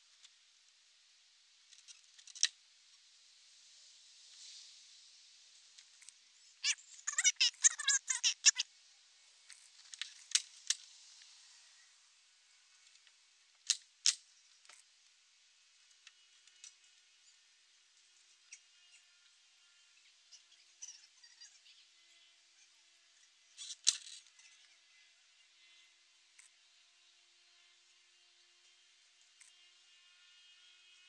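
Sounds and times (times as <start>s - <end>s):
faint outdoor background: 0.0s - 31.0s.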